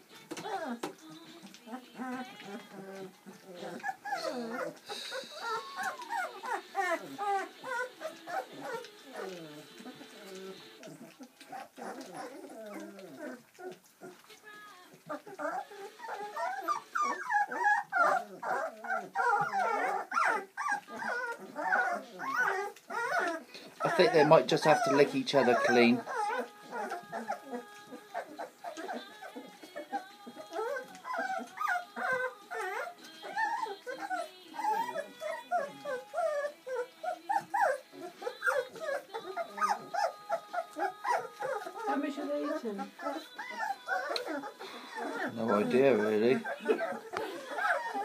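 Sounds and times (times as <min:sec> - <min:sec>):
puppies whining and squealing: 0:00.0 - 0:48.0.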